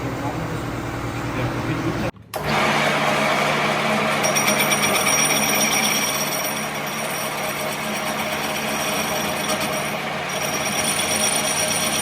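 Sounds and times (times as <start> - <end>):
workshop machine running: 0.0 - 12.0.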